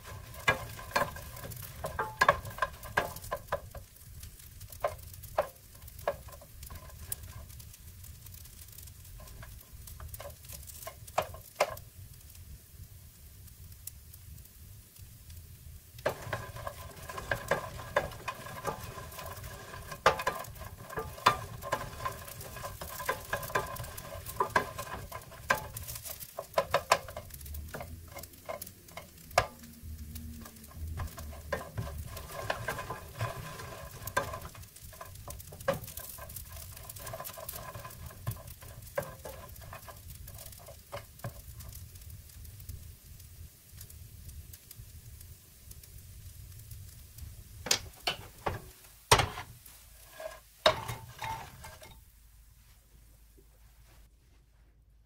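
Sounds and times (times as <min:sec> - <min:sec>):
spatula stirring bread in a pan: 0:00.0 - 0:12.6, 0:15.8 - 0:54.7
light sizzle: 0:00.0 - 0:55.0.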